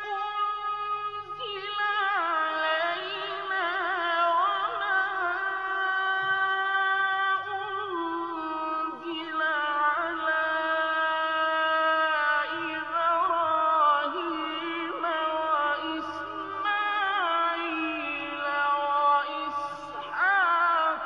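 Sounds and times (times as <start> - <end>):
man chanting recitation: 0.0 - 21.0.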